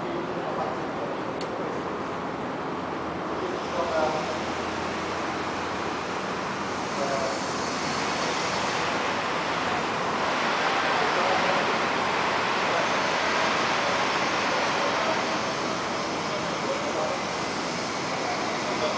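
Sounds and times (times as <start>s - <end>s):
electric fans rushing: 0.0s - 18.9s.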